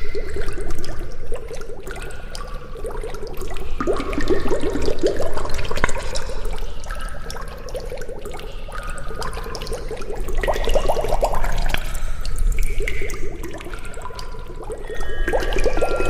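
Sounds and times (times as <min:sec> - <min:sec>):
water bubbling and gurgling: 0:00.0 - 0:16.0.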